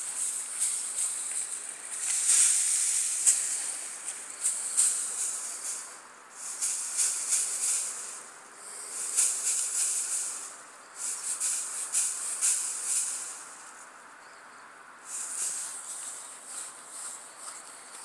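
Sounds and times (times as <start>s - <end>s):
tinsel toy rustling in leaves: 0.0s - 14.0s, 15.0s - 18.0s.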